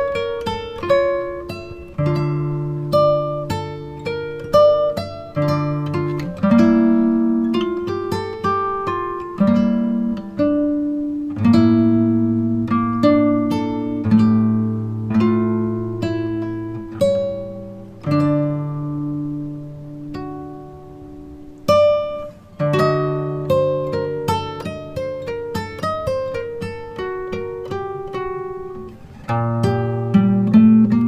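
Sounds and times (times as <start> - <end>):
plucked acoustic guitar: 0.0 - 31.0.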